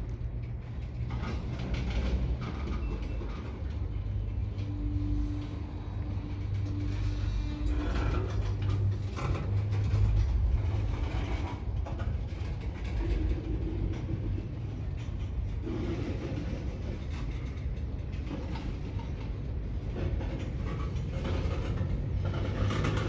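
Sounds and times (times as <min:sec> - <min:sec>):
low engine drone: 0:00.0 - 0:23.0
train rumbling past: 0:00.0 - 0:23.0.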